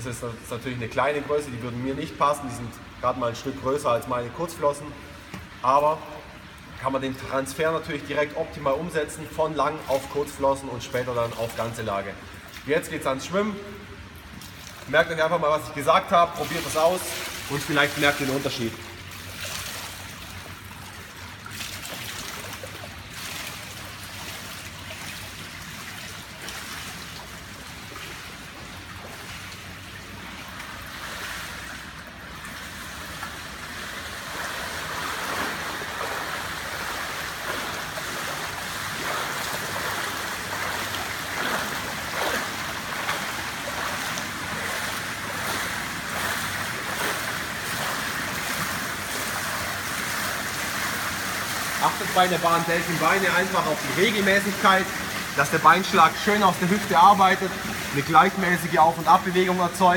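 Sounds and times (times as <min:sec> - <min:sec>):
water splashing and churning: 0:00.0 - 0:59.9.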